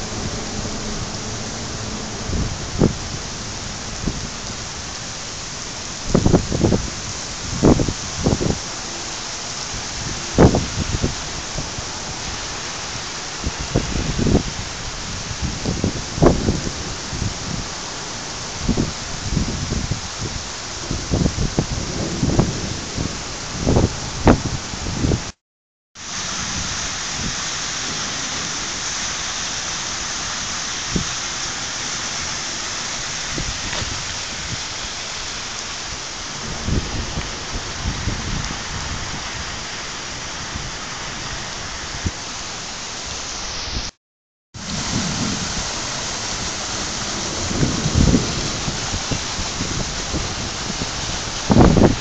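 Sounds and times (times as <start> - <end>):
runoff pouring onto pavement: 0.0 - 22.5, 26.0 - 41.6, 44.6 - 52.0
heavy rain falling: 0.0 - 25.4, 26.0 - 52.0
wind buffeting microphone: 0.0 - 25.4, 32.2 - 42.3, 44.6 - 52.0.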